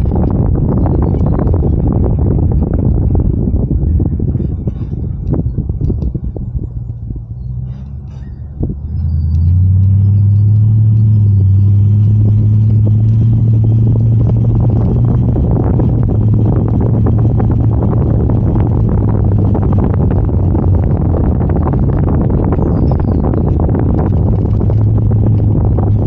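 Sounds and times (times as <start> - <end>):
vehicle engine running under load: 0.0 - 26.0.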